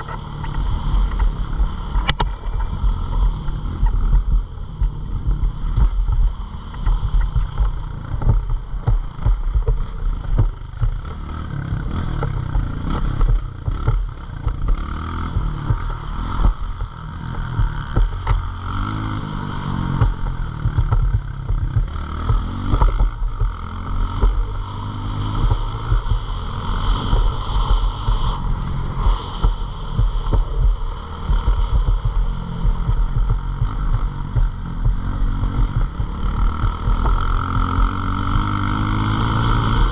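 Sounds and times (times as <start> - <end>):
pit bike engine revving: 0.0 - 39.9
wind rumble on microphone: 0.0 - 39.9.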